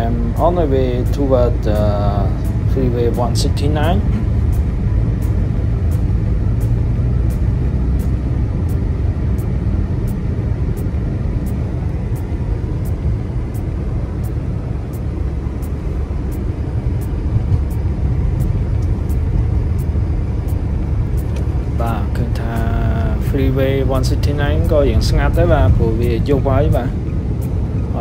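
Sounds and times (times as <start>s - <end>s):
car interior road rumble: 0.0s - 28.0s.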